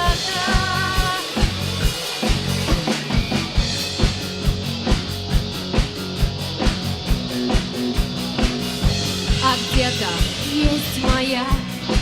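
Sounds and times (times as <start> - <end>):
drum kit beat: 0.0 - 12.0
sustained bass notes: 0.0 - 12.0.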